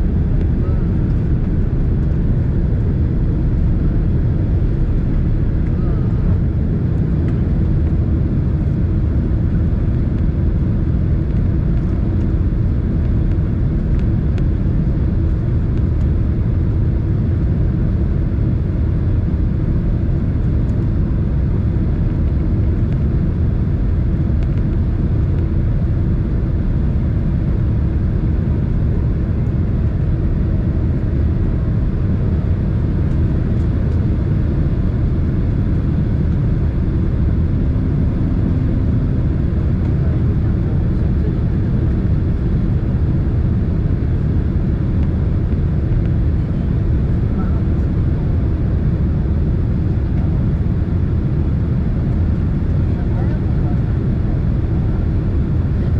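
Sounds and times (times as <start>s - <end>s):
airplane cabin engine rumble: 0.0s - 55.9s
faint steady hum: 0.0s - 55.9s.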